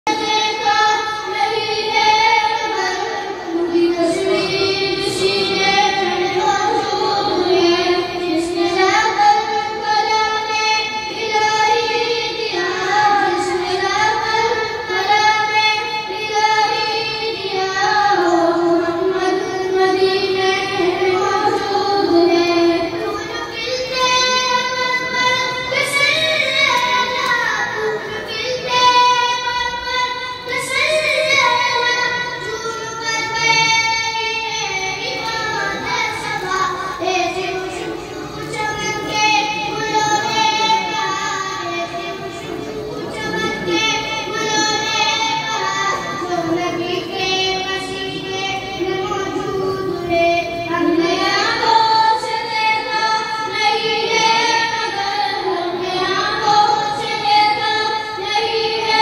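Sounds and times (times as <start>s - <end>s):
boy singing devotional poem: 0.0s - 59.0s.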